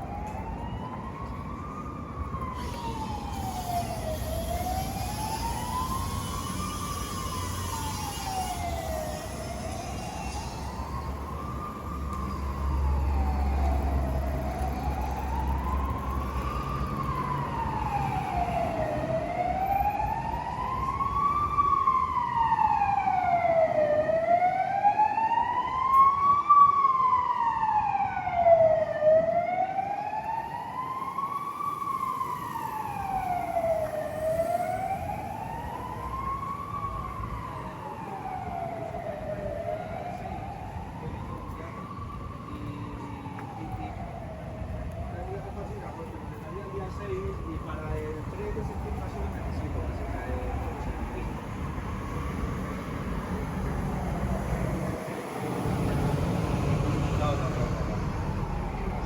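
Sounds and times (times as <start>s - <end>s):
emergency siren wailing: 0.0s - 59.0s
low traffic rumble: 0.0s - 59.0s.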